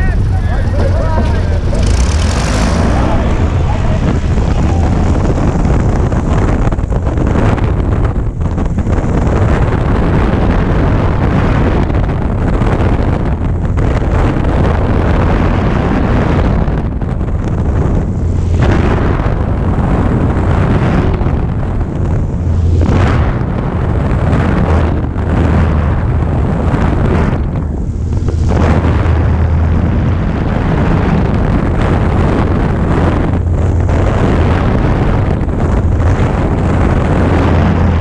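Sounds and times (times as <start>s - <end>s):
propeller engine running: 0.0s - 38.0s
wind buffeting microphone: 0.0s - 38.0s.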